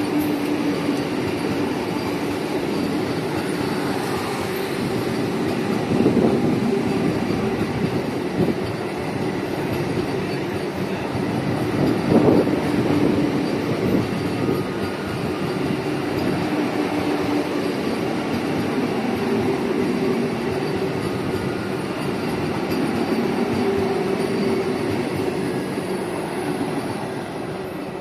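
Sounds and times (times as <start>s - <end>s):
train wheels rushing on rails: 0.0s - 28.0s.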